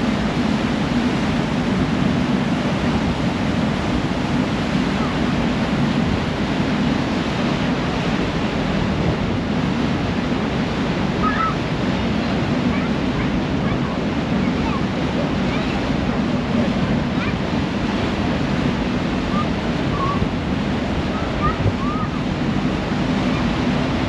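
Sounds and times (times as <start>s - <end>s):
ferry wake churning: 0.0s - 24.0s
low engine drone: 0.0s - 24.0s
wind buffeting microphone: 0.0s - 24.0s.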